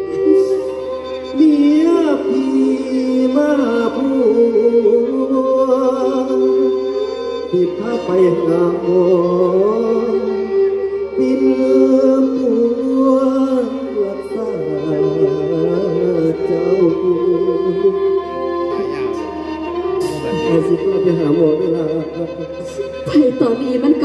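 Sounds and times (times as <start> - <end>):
wavering melody line: 0.0 - 24.0.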